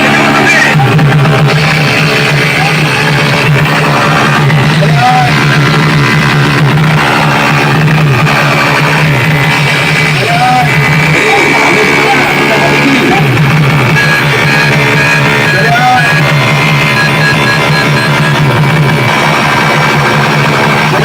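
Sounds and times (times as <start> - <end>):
loud music: 0.0 - 21.0.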